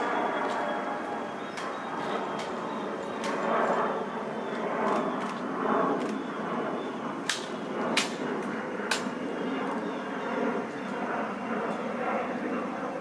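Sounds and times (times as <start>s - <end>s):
steady outdoor background noise: 0.0s - 13.0s.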